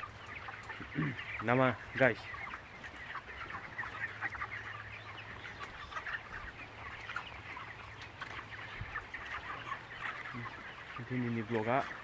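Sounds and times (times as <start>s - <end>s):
chickens peeping and clucking: 0.0s - 12.0s.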